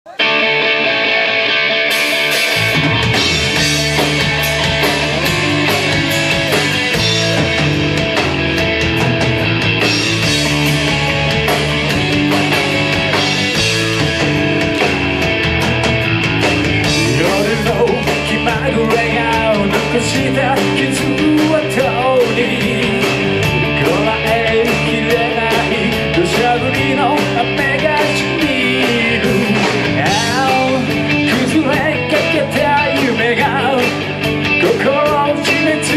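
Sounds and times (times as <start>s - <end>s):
rock band playing live: 0.1s - 35.9s.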